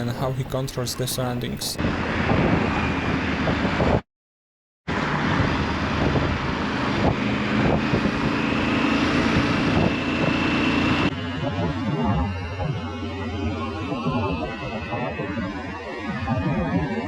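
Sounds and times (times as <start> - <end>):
wind rushing over microphone: 1.8 - 4.0, 4.9 - 17.0.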